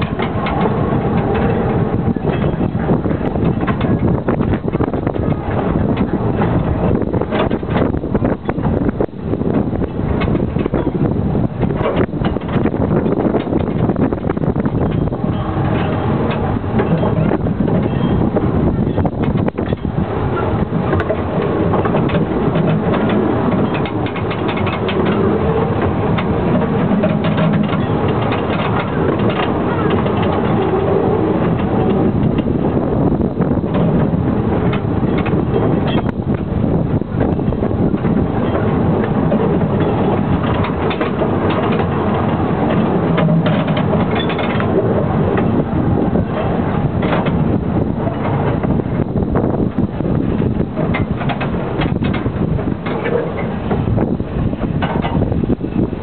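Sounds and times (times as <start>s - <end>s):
clicks and rattles: 0.0s - 9.1s, 9.9s - 18.3s, 18.9s - 32.8s, 33.6s - 56.0s
train rumbling: 0.0s - 56.0s.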